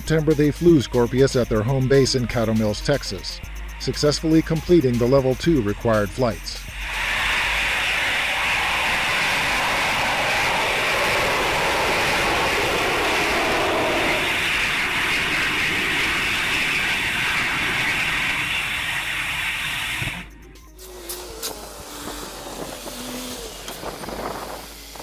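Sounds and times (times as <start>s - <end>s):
rocket engine roaring: 4.8s - 25.0s.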